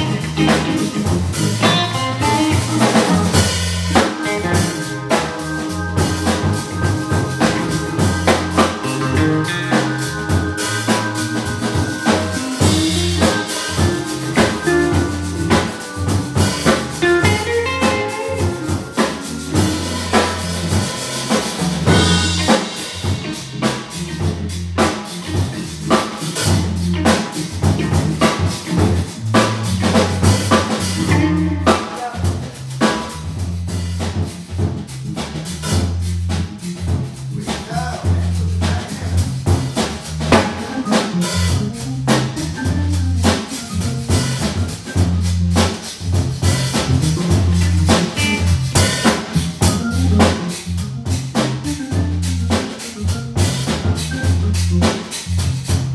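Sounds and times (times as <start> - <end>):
blues organ trio playing: 0.0 - 55.9.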